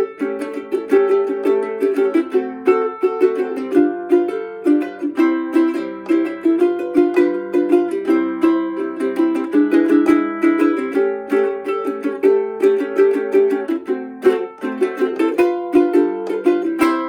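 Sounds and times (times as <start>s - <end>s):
ukulele strummed chords: 0.0s - 17.0s.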